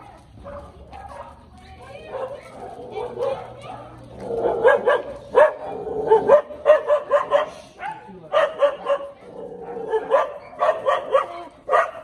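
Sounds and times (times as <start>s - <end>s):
dog barking: 0.0s - 1.4s, 2.0s - 12.0s.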